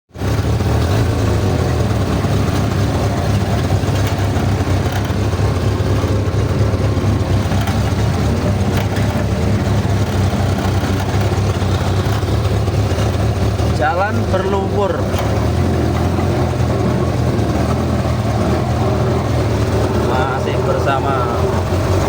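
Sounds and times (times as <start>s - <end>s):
vehicle engine humming: 0.1s - 22.0s.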